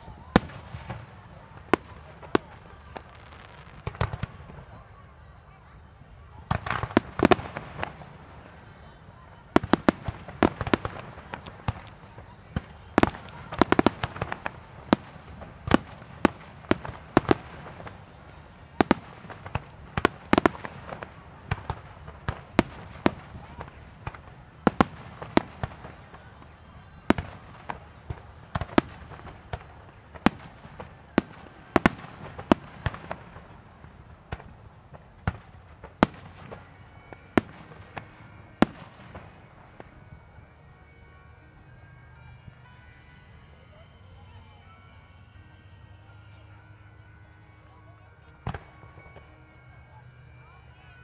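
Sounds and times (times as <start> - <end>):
fireworks bursting with echo: 0.0 - 41.2, 46.3 - 50.9.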